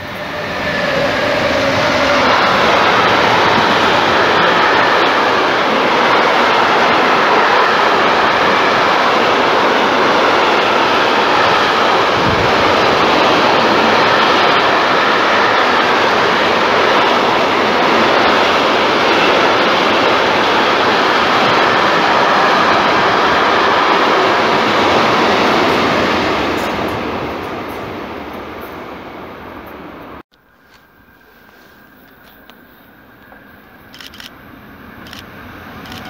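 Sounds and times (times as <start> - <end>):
train wheels rumbling on rail: 0.0 - 30.2, 31.2 - 36.0.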